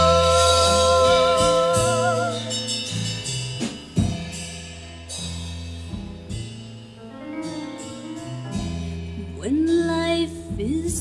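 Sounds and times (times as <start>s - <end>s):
bass and sustained chords: 0.0s - 11.0s
drum and cymbal hits: 0.0s - 11.0s.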